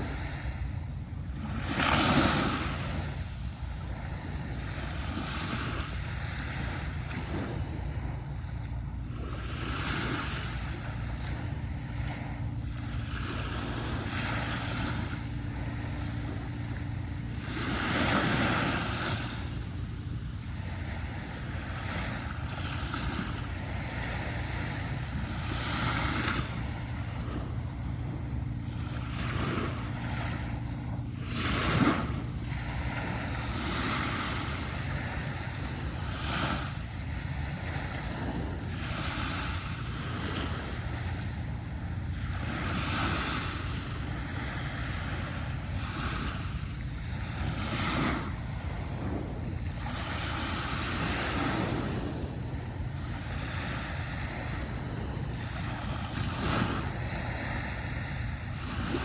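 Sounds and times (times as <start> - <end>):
low rumble: 0.0 - 59.0
sea waves breaking on beach: 0.0 - 59.0.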